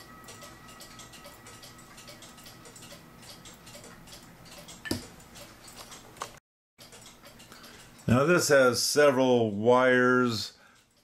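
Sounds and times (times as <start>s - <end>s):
mechanical clock ticking: 0.0s - 11.0s.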